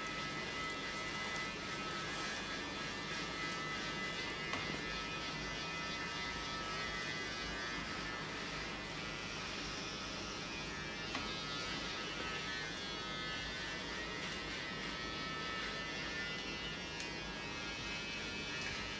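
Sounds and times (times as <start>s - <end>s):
electrical hum and buzz: 0.0s - 18.9s.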